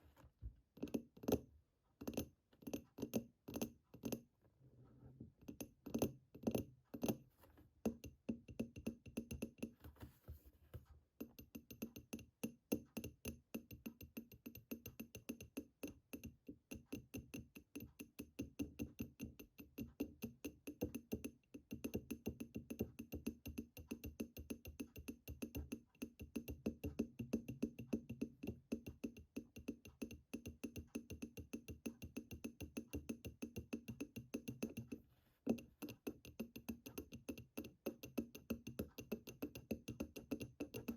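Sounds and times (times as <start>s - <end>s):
fingertips tapping on hard object: 0.8s - 4.3s, 5.4s - 9.9s, 11.2s - 40.9s.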